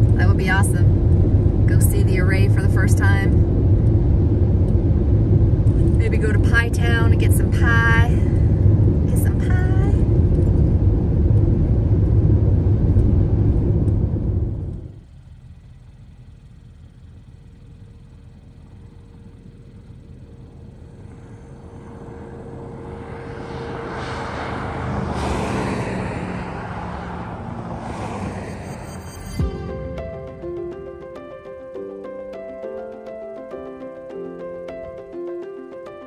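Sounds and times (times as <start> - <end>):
car cabin road and engine rumble: 0.0 - 30.9.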